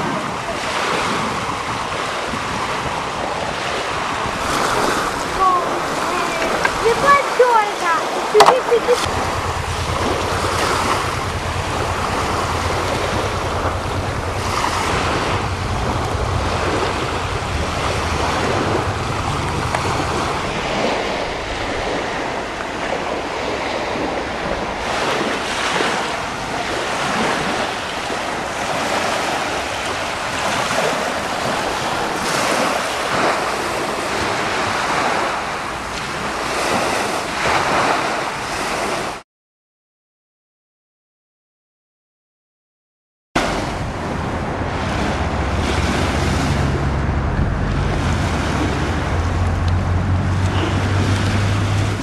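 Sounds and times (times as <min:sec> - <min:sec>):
sea waves washing on shore: 0:00.0 - 0:39.2, 0:43.4 - 0:52.0
wind buffeting microphone: 0:00.0 - 0:39.2, 0:43.4 - 0:52.0.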